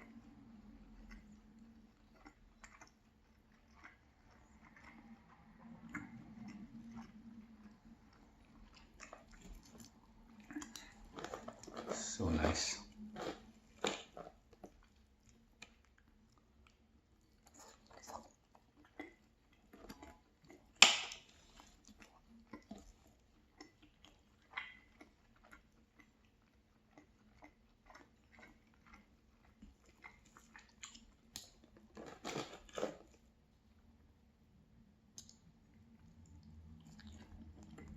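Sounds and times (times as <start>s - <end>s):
person chewing crunchy food: 0.0s - 33.8s, 35.1s - 37.9s.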